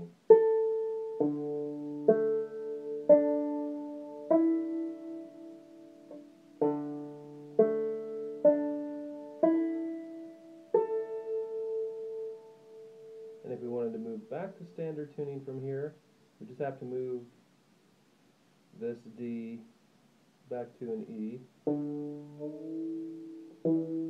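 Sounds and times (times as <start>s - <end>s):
banjo strummed chords: 0.0s - 15.9s, 20.5s - 24.0s.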